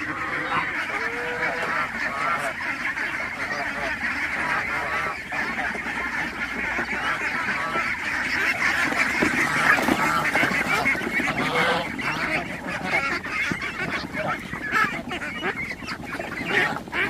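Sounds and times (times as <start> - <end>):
flock of ducks quacking: 0.0 - 17.0.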